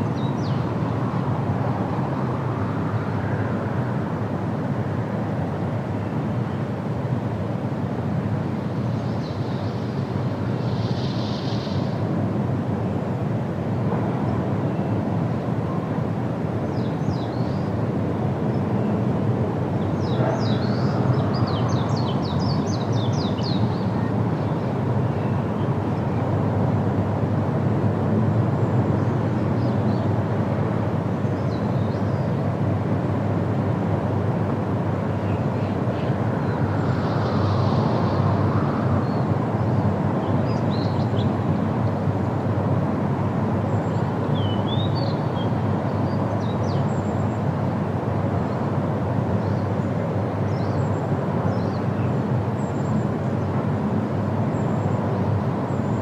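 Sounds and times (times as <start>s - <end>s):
wind rushing through trees: 0.0s - 56.0s.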